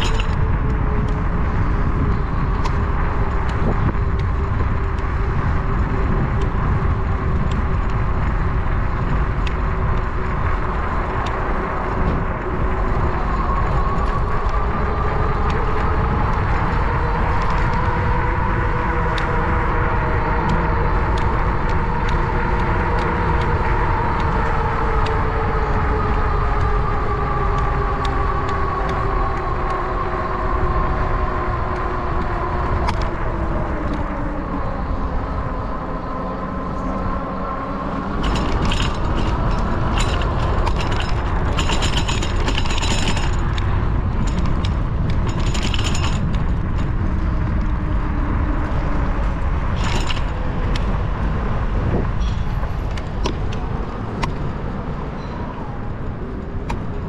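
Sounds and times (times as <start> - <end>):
bicycle ticking and rattling: 0.0 - 34.2, 37.8 - 55.1
bicycle whine: 0.0 - 57.0
wind rumble on microphone: 0.0 - 57.0.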